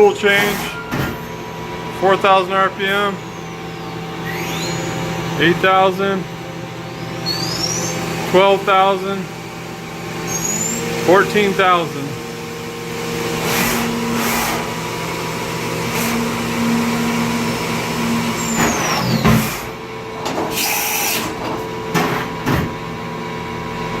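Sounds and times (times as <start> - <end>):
machining center humming: 0.0 - 24.0
falling whine: 0.8 - 20.3.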